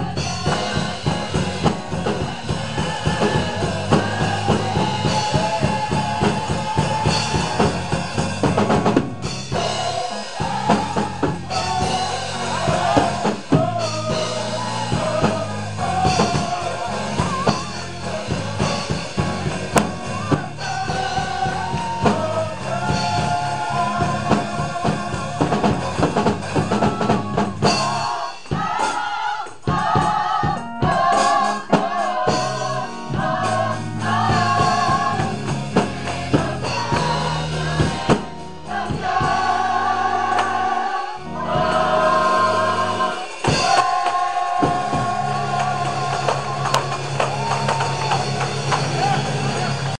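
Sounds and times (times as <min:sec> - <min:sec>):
bass line: 0:00.0 - 0:28.8, 0:29.7 - 0:50.0
drum kit beat: 0:00.0 - 0:50.0
gospel choir singing: 0:00.0 - 0:50.0.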